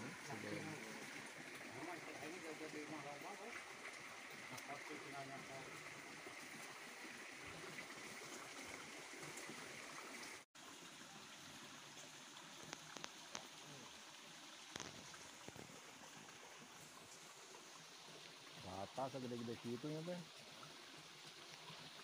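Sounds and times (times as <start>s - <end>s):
water trickling in ditch: 0.0s - 22.0s.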